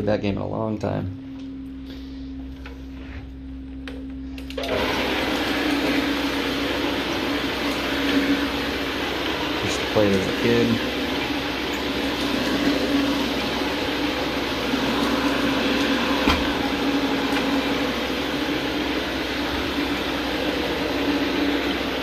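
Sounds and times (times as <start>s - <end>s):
carpet machine motor hum: 2.3s - 22.0s.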